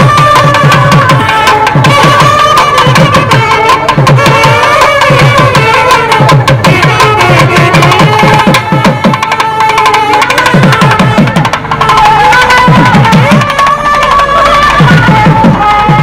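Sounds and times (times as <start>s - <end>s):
double reed wind instrument melody: 0.0s - 16.0s
fast drumming: 0.0s - 16.0s.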